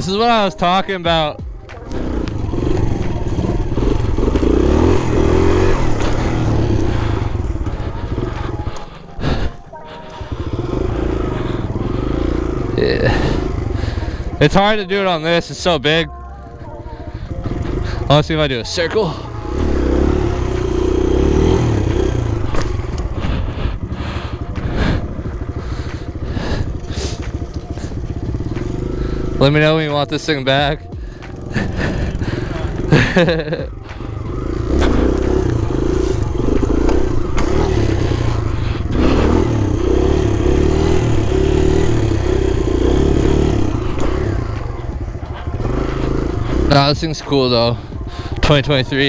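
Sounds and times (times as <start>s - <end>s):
motorbike engine revving: 0.0s - 49.0s.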